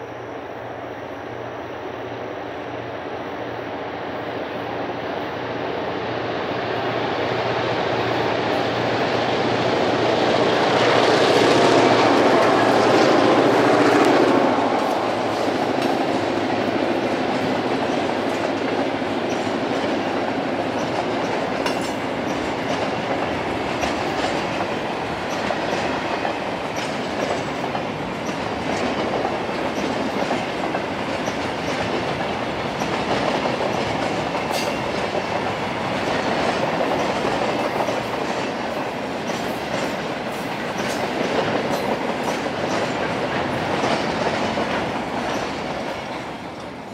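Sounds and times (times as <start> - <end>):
diesel locomotives passing: 0.0 - 46.9.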